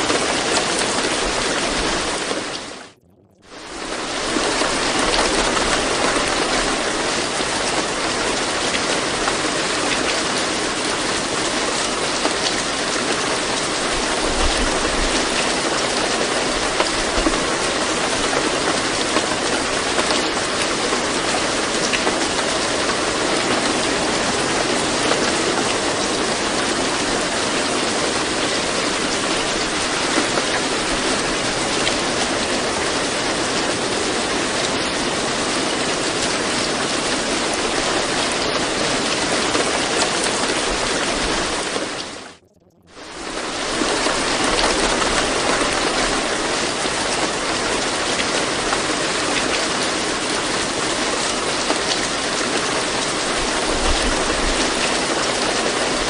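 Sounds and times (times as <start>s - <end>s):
steady rain hiss: 0.0s - 42.4s, 43.0s - 56.0s.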